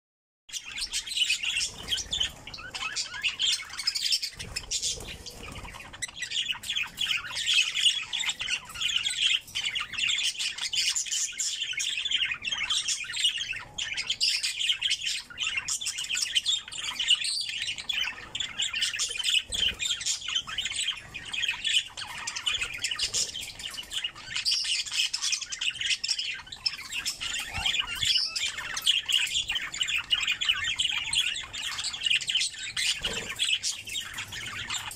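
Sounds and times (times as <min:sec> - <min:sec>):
bird squawks: 0:00.5 - 0:34.9
budgerigars chattering and chirping: 0:00.5 - 0:34.9.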